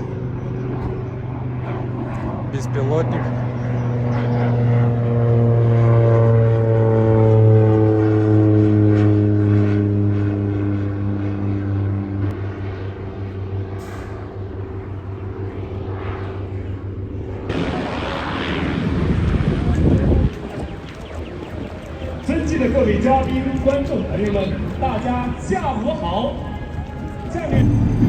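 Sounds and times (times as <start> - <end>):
drone aircraft flying past: 0.0 - 28.0.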